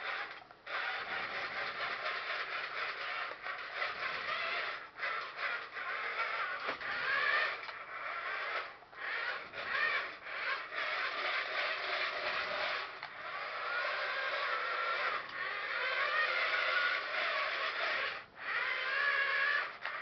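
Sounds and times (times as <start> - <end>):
toy truck motor whirring: 0.0 - 20.0.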